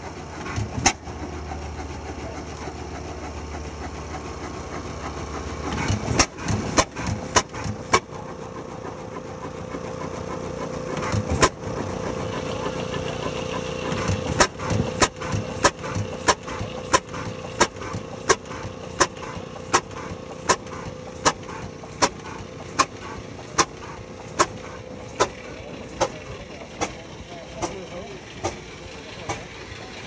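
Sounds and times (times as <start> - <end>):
engine metallic clicking: 0.0 - 30.0
steady engine hum: 0.0 - 30.0.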